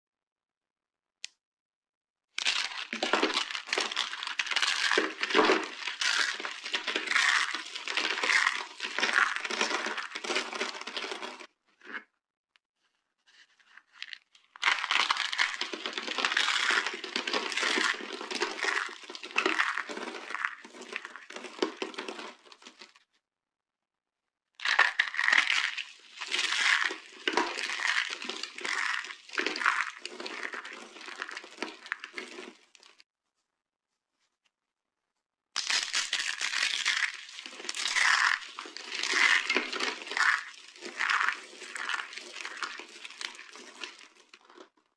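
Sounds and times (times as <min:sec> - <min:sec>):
dry soap crunching in hands: 0:02.4 - 0:12.0, 0:13.3 - 0:23.0, 0:24.6 - 0:33.0, 0:35.6 - 0:44.9.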